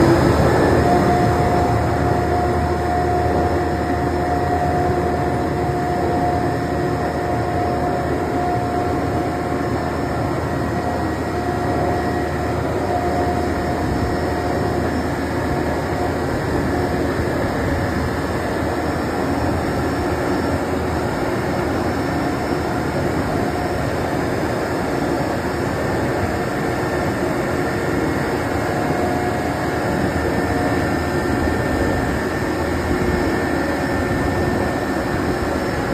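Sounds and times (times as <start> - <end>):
concrete mixer truck drone: 0.0 - 35.9.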